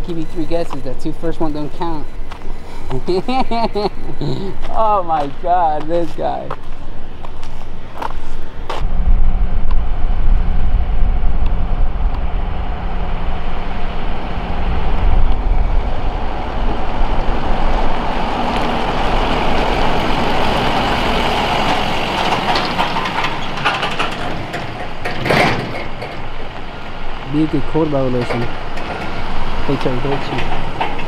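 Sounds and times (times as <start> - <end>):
truck engine rumble: 0.0 - 31.0
tyre and road noise: 0.0 - 31.0.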